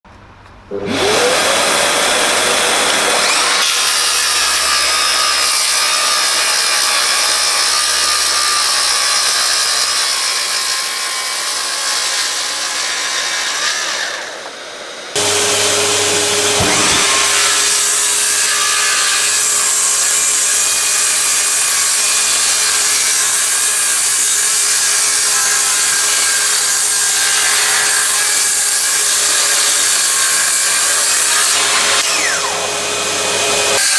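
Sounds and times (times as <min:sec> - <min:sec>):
circular saw cutting wood: 0:00.7 - 0:33.9.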